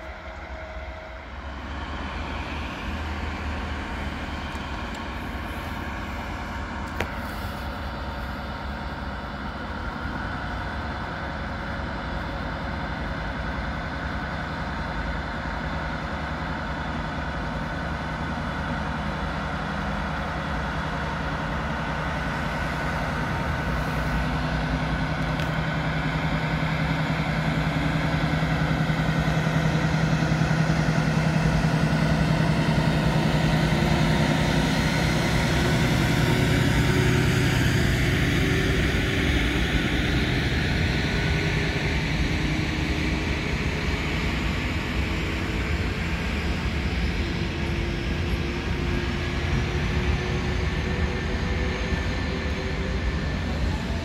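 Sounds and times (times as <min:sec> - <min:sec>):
diesel locomotive engine hum: 0:00.0 - 0:54.0.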